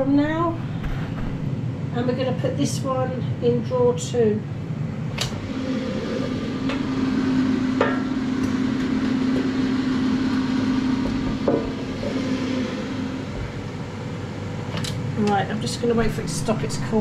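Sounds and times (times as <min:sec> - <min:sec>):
air fryer fan humming: 0:00.0 - 0:17.0.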